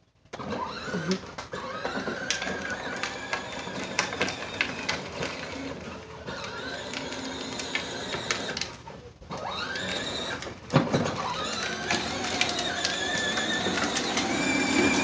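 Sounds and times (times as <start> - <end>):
toy car motor whining: 0.4 - 15.0.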